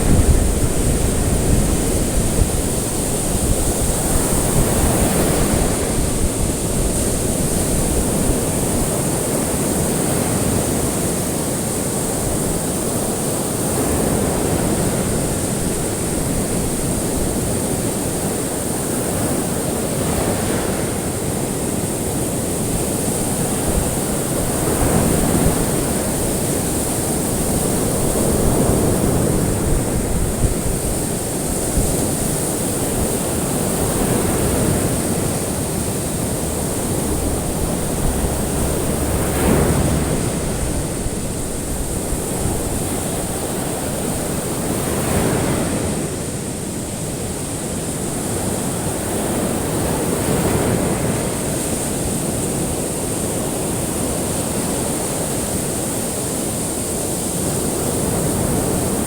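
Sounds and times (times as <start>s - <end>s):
ocean waves washing onto shore: 0.0s - 59.0s
steady high-pitched hiss: 0.0s - 59.0s.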